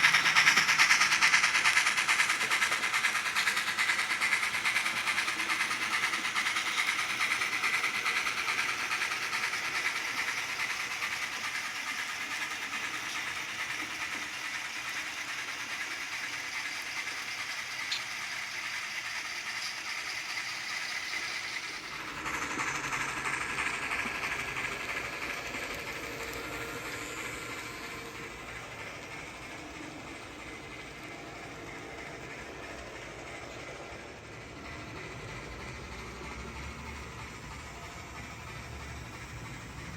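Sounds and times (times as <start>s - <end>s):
model train wheels clattering: 0.0s - 39.9s.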